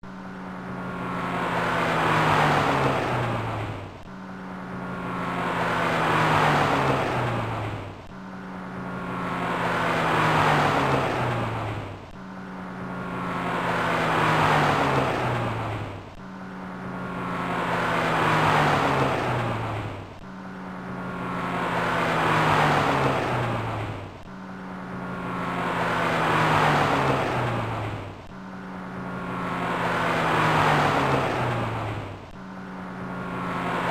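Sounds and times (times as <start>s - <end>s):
car driving past: 0.3s - 33.9s.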